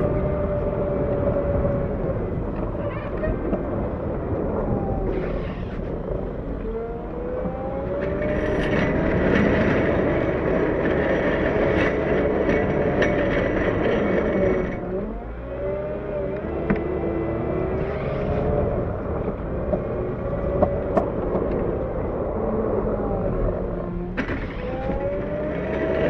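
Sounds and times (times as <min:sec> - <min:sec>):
loader diesel engine revving: 0:03.6 - 0:26.0.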